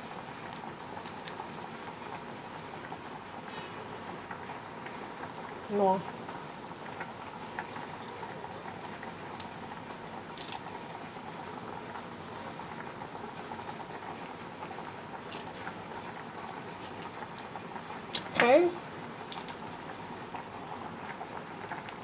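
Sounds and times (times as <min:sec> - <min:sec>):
pot simmering and bubbling: 0:00.0 - 0:22.0.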